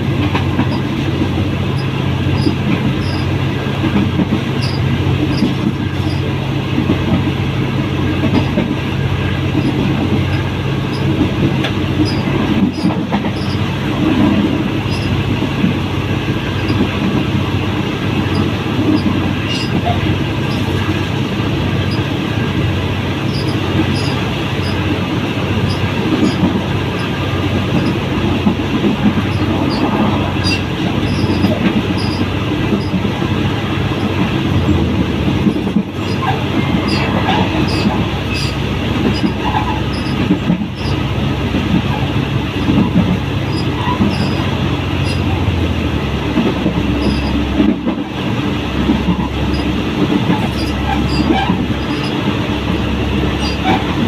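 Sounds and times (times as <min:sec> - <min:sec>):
train wheels rumbling on rails: 0:00.0 - 0:54.0
wheels clicking on rails: 0:00.0 - 0:54.0.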